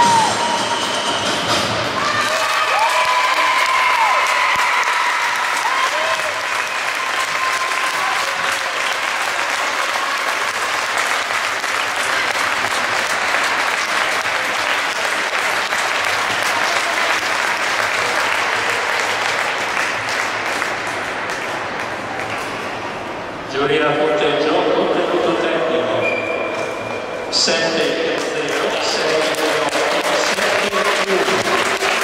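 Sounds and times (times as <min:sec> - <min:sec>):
audience applauding: 0:00.0 - 0:22.6, 0:27.7 - 0:32.0.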